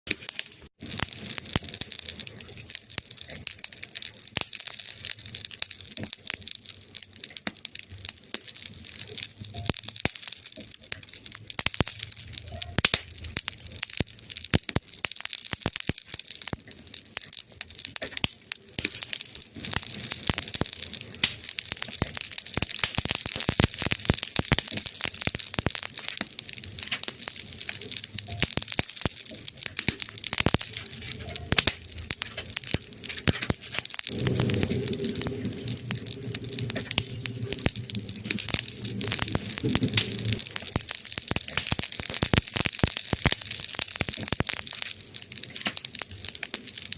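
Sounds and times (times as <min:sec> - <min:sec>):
wood fire crackling and popping: 0:00.1 - 0:46.9.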